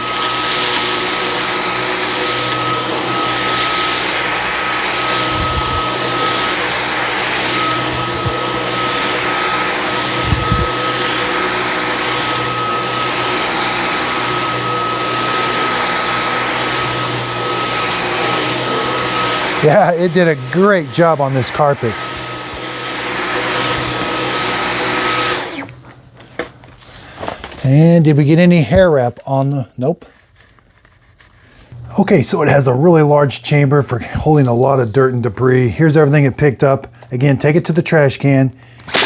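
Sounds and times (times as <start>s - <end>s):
vacuum cleaner whine: 0.0s - 28.9s, 35.7s - 39.0s.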